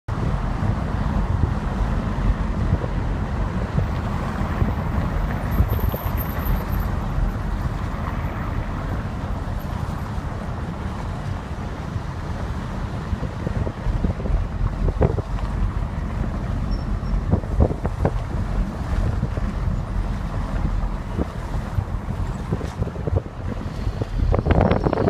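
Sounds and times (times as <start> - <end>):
street traffic rumble: 0.1 - 25.0
wind buffeting microphone: 0.1 - 25.0.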